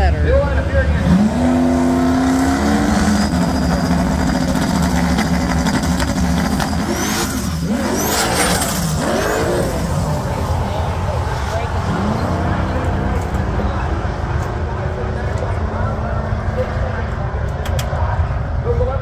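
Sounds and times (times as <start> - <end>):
drag car engines revving: 0.0 - 19.0.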